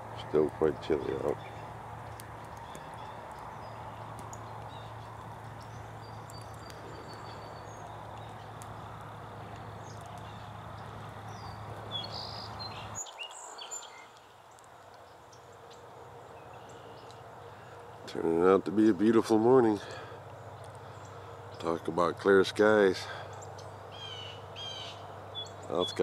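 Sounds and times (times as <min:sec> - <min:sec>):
campfire burning and crackling: 0:00.0 - 0:26.0
small birds chirping: 0:00.0 - 0:26.0.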